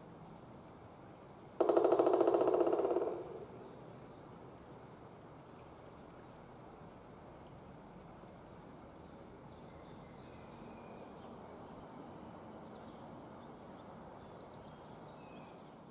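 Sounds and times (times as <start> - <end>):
outdoor background noise: 0.0 - 15.9.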